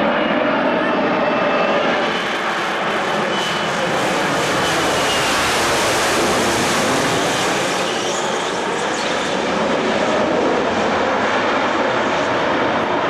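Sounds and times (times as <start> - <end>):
jet engine hovering: 0.0 - 13.0.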